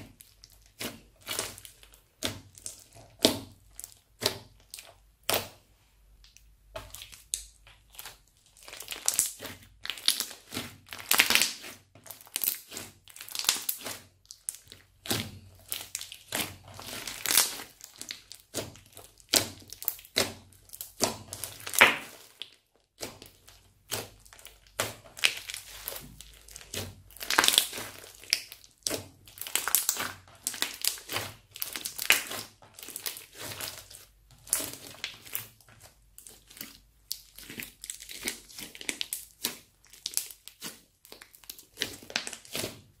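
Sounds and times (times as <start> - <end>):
crunchy slime crackling: 0.0 - 43.0.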